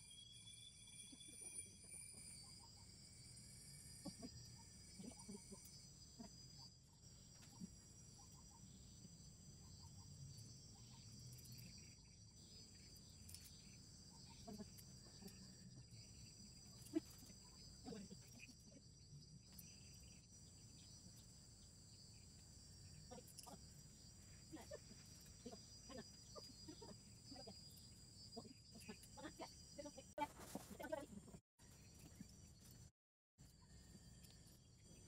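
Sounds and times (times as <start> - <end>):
high-pitched insect drone: 0.0 - 30.1.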